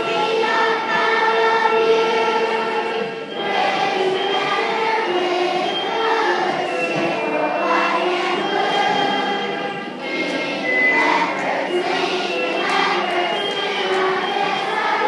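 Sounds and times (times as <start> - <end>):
children singing in unison: 0.0 - 15.0.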